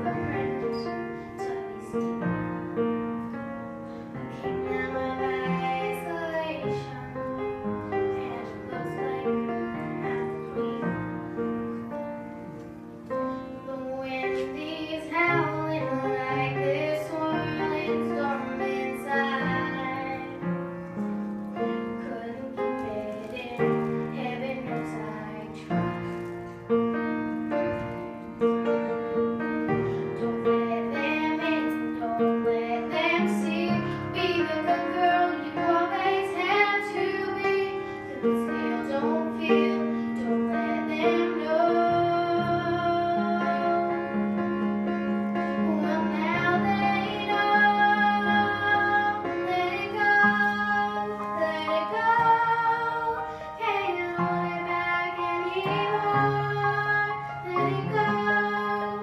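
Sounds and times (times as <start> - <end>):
girl singing into microphone: 0.0 - 3.0, 3.9 - 11.5, 13.2 - 26.7, 28.8 - 44.6, 45.4 - 59.0
backing music with piano: 0.0 - 59.0.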